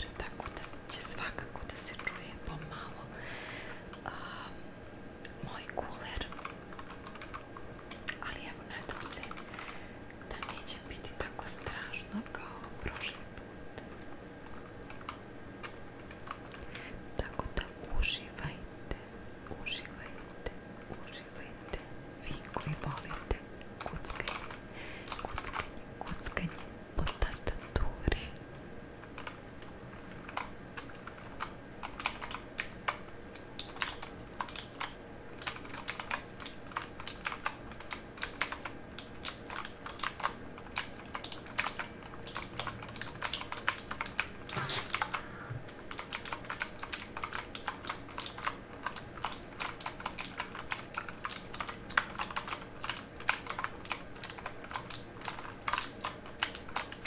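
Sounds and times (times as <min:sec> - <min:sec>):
mechanical keyboard typing: 0:00.0 - 0:02.9, 0:05.5 - 0:11.8, 0:13.8 - 0:17.7, 0:21.0 - 0:27.9, 0:29.0 - 0:29.4, 0:30.1 - 0:45.2, 0:45.8 - 0:57.0.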